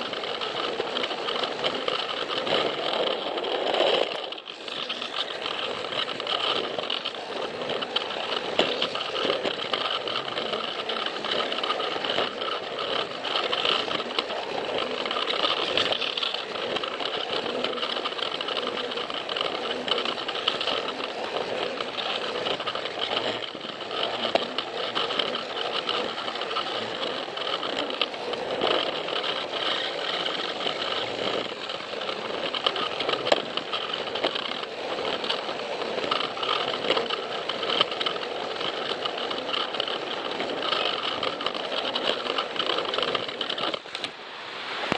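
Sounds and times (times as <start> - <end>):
toy train motor whining: 0.0 - 44.9
wheels and cars rattling: 0.0 - 44.9.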